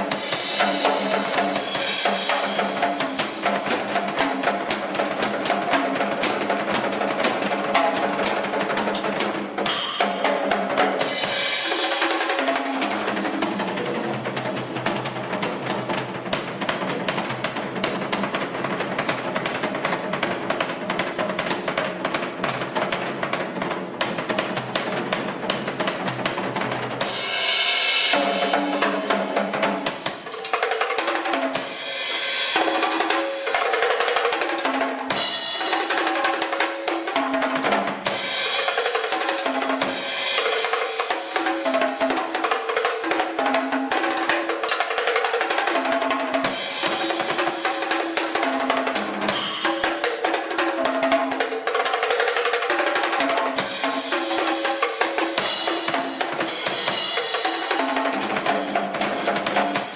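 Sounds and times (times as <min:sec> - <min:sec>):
drum kit with cymbals: 0:00.0 - 0:59.9.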